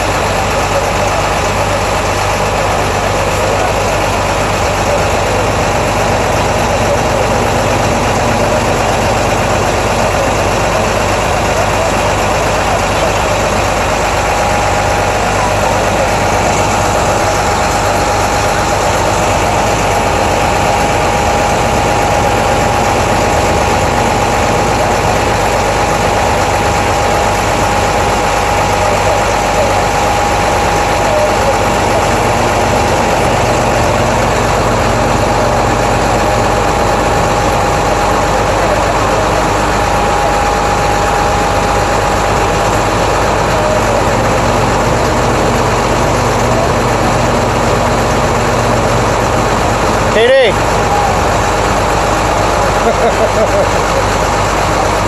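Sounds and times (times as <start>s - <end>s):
bus engine idling: 0.0s - 55.0s
steady whine: 0.0s - 55.0s.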